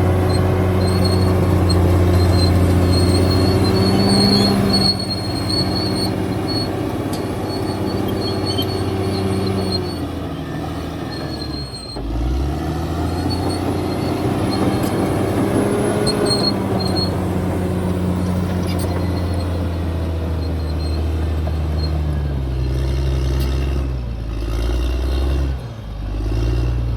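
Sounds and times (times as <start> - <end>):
steel tracks squealing: 0.0 - 23.9
bulldozer diesel engine: 0.0 - 26.9.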